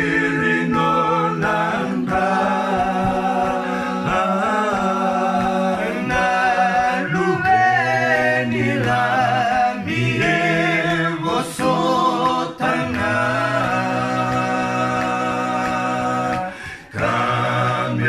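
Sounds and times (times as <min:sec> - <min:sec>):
unaccompanied choir singing: 0:00.0 - 0:18.0.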